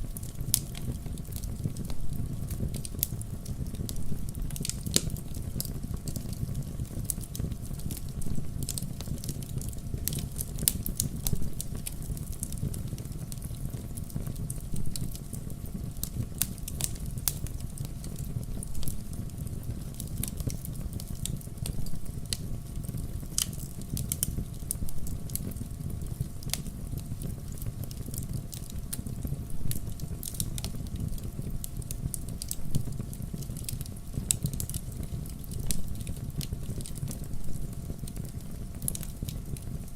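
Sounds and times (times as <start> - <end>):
fire crackles and pops: 0.0 - 39.9
rumble of flames: 0.0 - 39.9.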